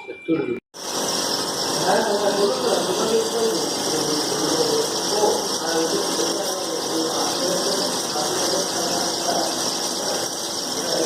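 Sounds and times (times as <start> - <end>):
machine humming with hiss: 0.8 - 11.0.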